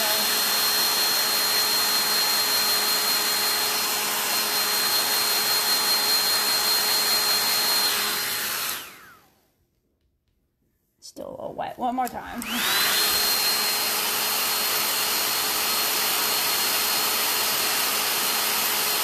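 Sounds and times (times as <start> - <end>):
hair dryer blowing: 0.0 - 9.4, 12.1 - 19.0.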